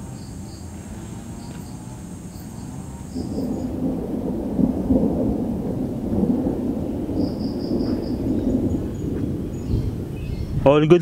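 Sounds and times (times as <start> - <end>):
thunder rumbling: 0.0 - 11.0.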